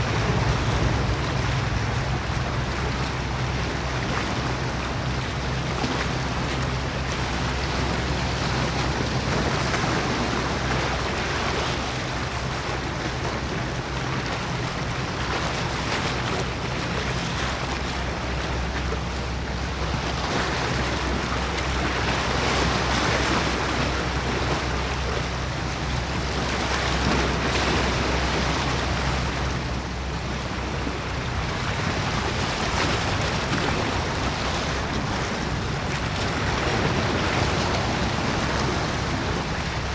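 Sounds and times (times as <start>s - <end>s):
sea wash: 0.0s - 39.9s
ship engine low drone: 0.0s - 39.9s.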